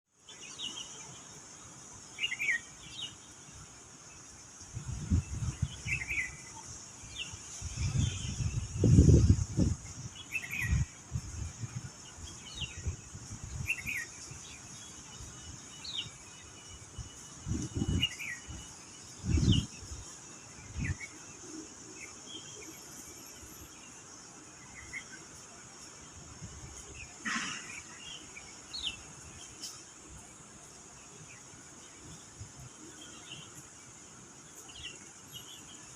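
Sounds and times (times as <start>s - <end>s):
steady high hiss: 0.1s - 35.9s
lovebirds chirping: 0.2s - 35.9s.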